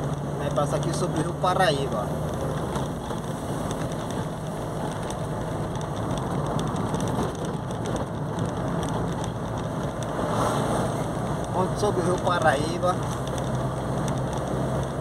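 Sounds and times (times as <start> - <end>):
car running noise: 0.0 - 15.0.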